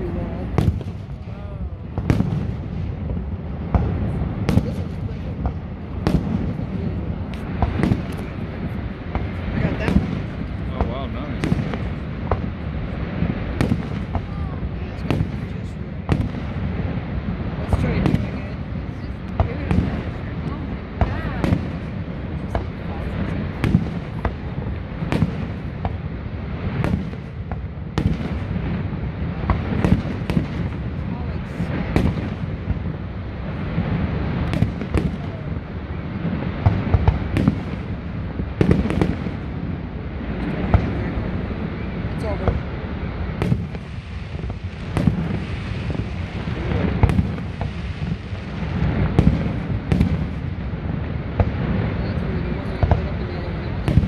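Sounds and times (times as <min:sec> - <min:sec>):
fireworks booming: 0:00.0 - 0:54.0
steady low rumble: 0:00.0 - 0:54.0.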